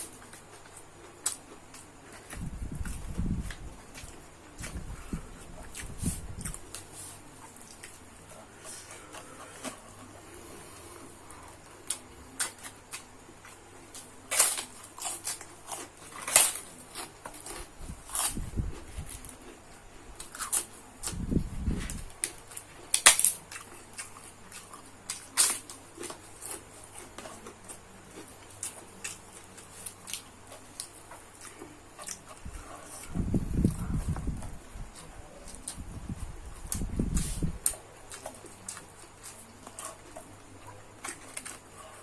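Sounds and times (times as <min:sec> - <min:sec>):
person chewing food: 0:00.0 - 0:42.0.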